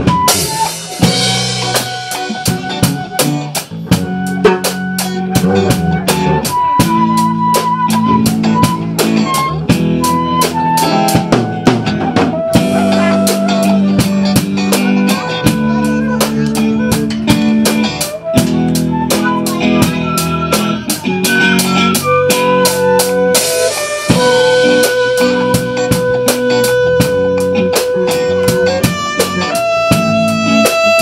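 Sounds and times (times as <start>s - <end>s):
drum kit beat: 0.0s - 31.0s
electric guitar: 0.0s - 31.0s
saxophone held notes: 0.0s - 31.0s.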